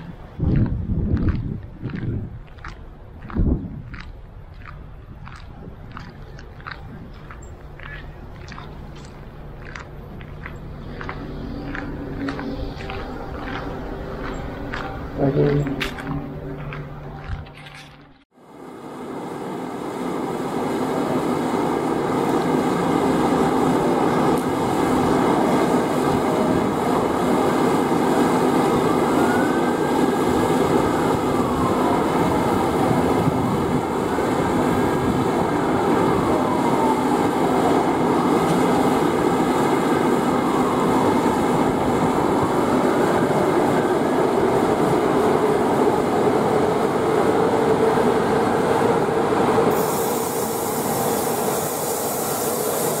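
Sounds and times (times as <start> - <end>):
electric locomotive humming: 0.0 - 53.0.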